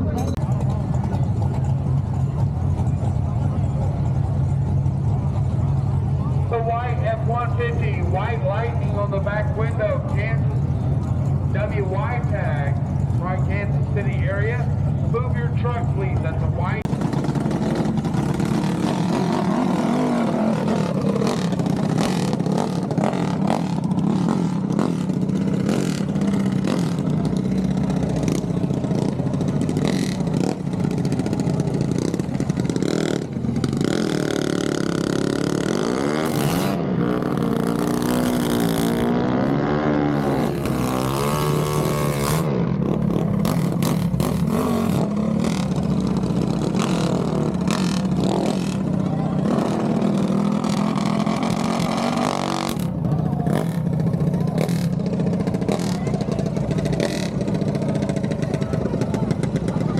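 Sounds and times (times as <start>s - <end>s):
engines revving: 0.0s - 59.9s.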